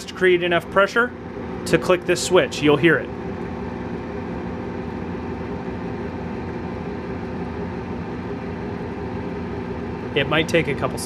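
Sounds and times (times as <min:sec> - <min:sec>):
furnace blower humming: 0:00.0 - 0:11.0.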